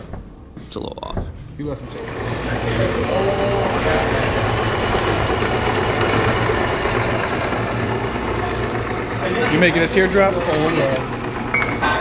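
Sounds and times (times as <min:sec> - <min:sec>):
mechanical running noise with hum: 0:01.1 - 0:12.0.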